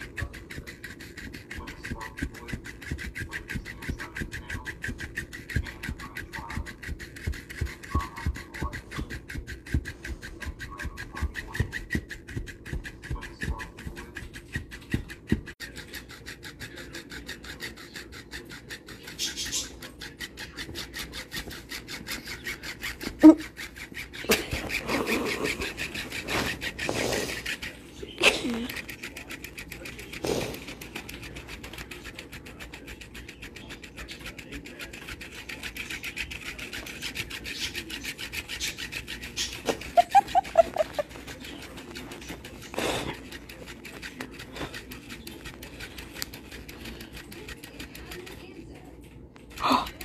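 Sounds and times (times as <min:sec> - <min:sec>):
toy tail flapping: 0:00.0 - 0:50.0.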